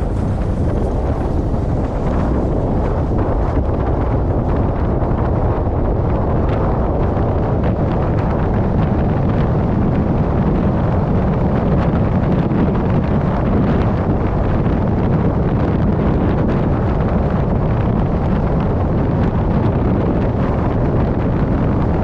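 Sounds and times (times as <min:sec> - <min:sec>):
heavy farm machinery rumbling: 0:00.0 - 0:21.9
wind buffeting microphone: 0:00.0 - 0:22.0.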